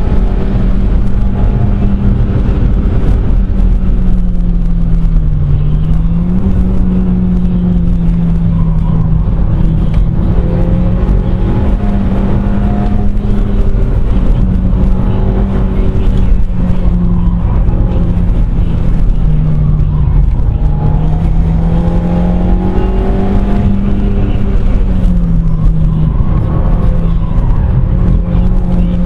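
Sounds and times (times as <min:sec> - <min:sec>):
car engine at high revs: 0:00.0 - 0:29.0
road and wind noise: 0:00.0 - 0:29.0.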